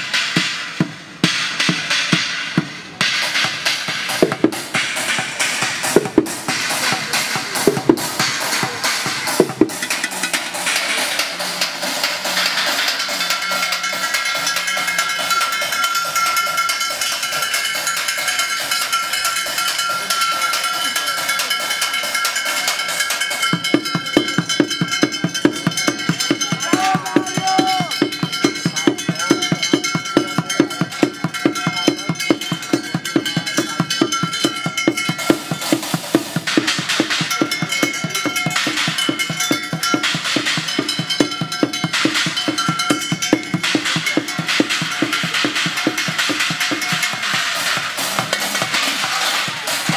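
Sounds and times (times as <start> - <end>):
deep regular beat: 0.0 - 49.9
fast drumming on pots and buckets: 0.0 - 49.9
ringing metal tones: 1.6 - 49.1.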